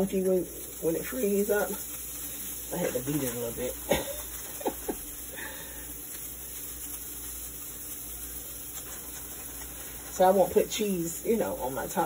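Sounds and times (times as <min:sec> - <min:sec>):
cheese sizzling in a skillet: 0:00.0 - 0:12.0.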